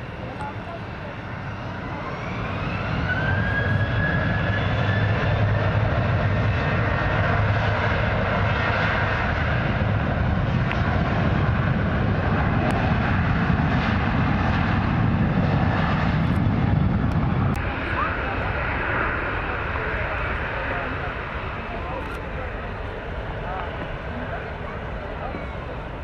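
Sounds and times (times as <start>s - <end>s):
airliner engines roaring: 0.0s - 26.0s
rising engine whine: 0.0s - 26.0s.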